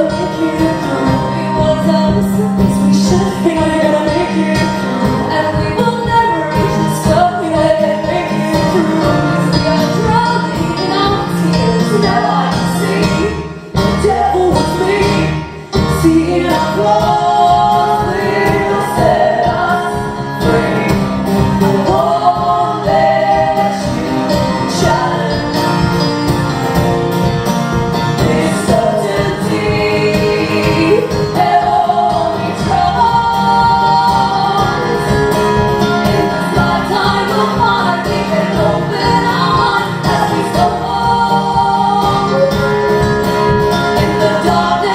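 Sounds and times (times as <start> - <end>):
women singing: 0.0 - 26.4, 28.0 - 44.9
live band accompaniment: 0.0 - 44.9.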